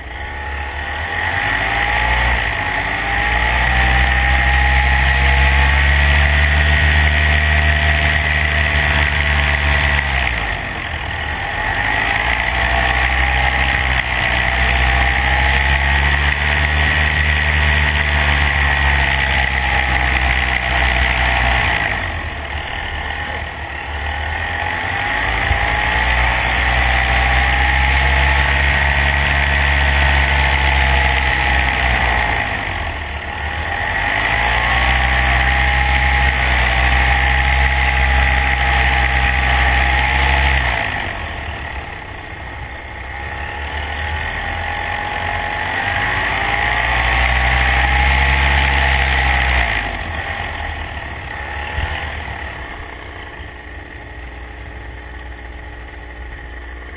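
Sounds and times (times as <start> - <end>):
high whine: 0.0 - 56.9
vehicle engine running: 0.0 - 56.9.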